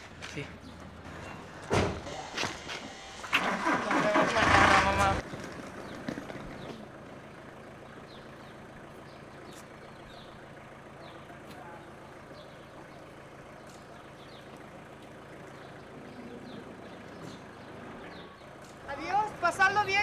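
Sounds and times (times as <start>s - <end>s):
small birds chirping: 0.0s - 1.6s, 5.4s - 20.0s
van engine idling: 0.0s - 20.0s.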